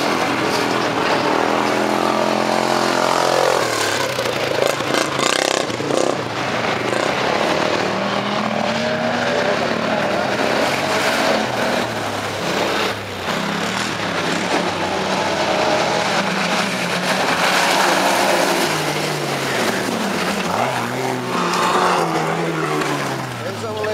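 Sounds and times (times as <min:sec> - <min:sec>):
off-road engines revving: 0:00.0 - 0:23.9.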